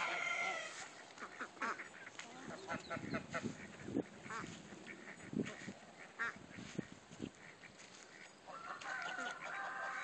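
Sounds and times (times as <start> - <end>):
goose and ducklings calling: 0.0 - 10.0.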